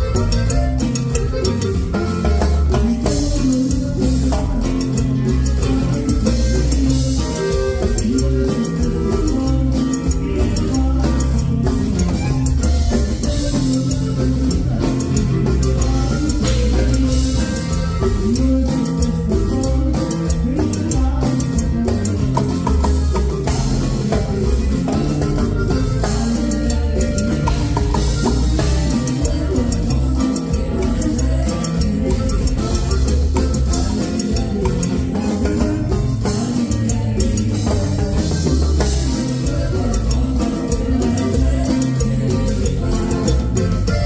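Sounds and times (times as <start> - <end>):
live band music with bass: 0.0 - 44.0.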